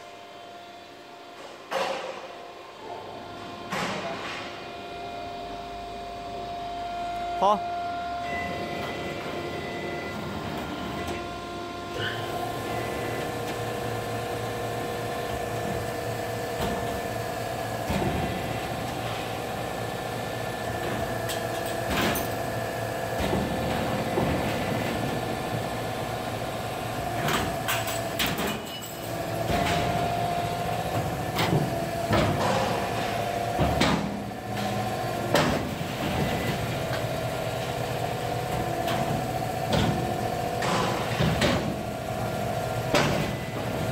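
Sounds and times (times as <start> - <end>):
machine hum and whine: 0.0 - 43.9.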